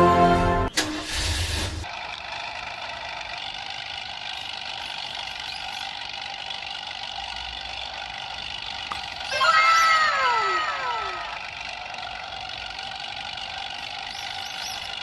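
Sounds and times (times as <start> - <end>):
engine running hum: 0.0 - 15.0.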